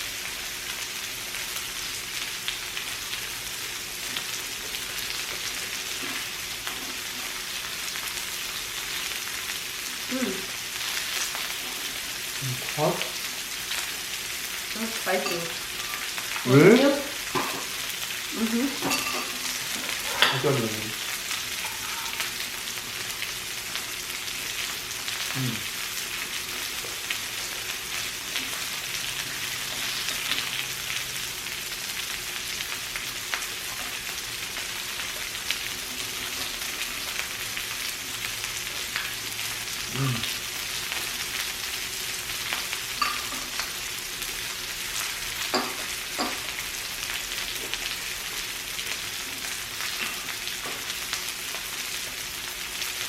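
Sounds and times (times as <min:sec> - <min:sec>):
meat sizzling on a grill: 0:00.0 - 0:53.0.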